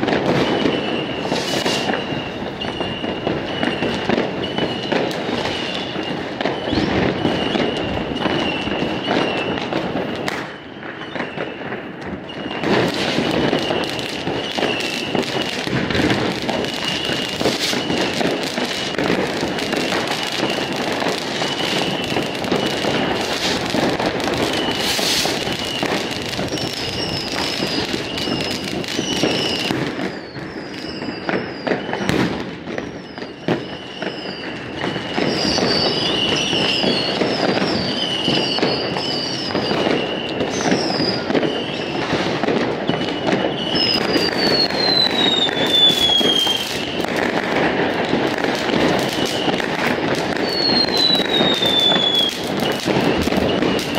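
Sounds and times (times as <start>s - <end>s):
distant firecrackers and bangs: 0.0s - 53.9s
whistling rockets: 0.0s - 53.9s.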